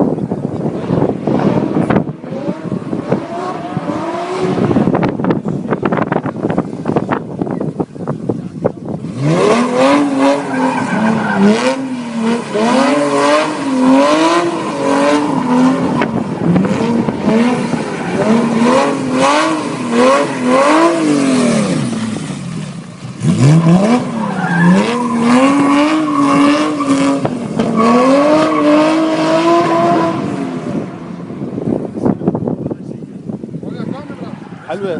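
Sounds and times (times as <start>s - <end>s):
car engine revving: 0.0s - 7.2s, 8.9s - 32.7s.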